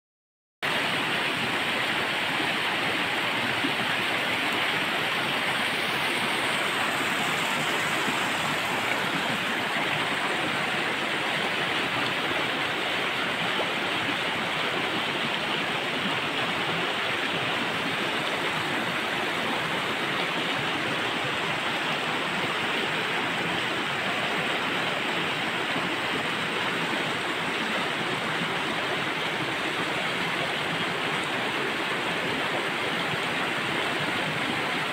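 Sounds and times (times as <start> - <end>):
water stream flowing: 0.6 - 34.9.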